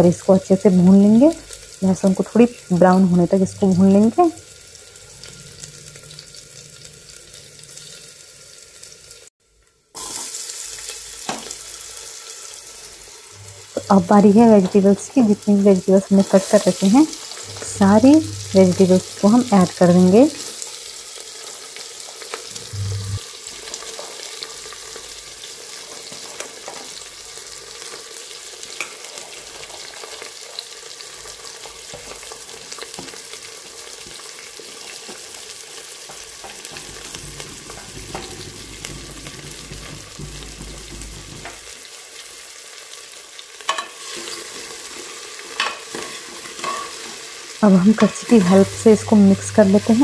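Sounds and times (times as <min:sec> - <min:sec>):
vegetables sizzling in oil: 0:00.0 - 0:50.0.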